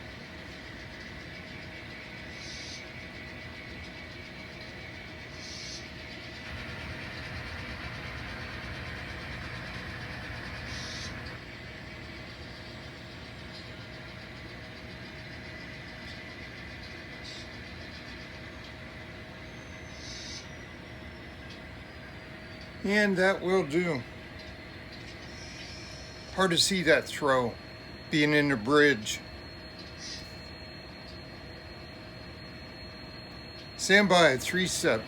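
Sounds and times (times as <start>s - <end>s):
model locomotive mechanical hum: 0.0s - 35.0s.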